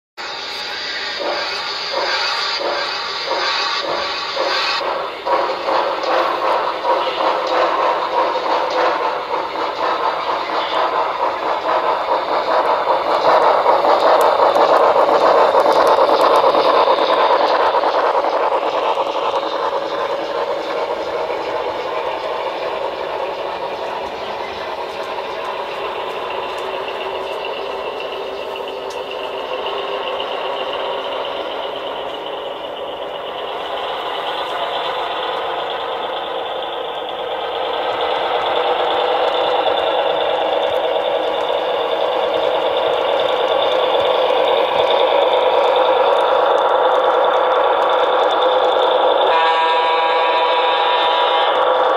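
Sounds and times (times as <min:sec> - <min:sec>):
model train running on track: 0:00.2 - 0:51.9.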